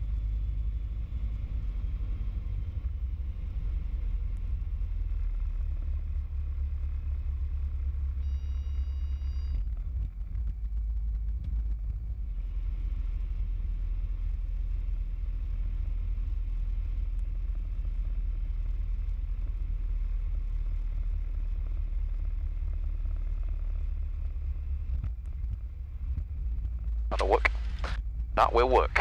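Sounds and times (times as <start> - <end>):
propeller plane engine drone: 0.0 - 29.0.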